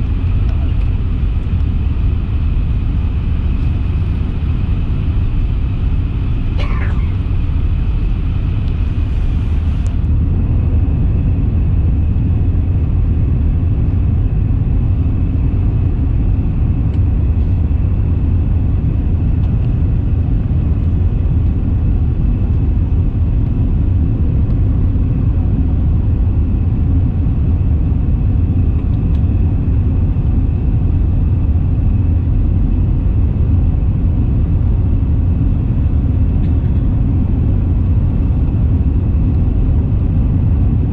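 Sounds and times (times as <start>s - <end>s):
jet engine high whine: 0.0s - 40.9s
jet engine rumble: 0.0s - 40.9s.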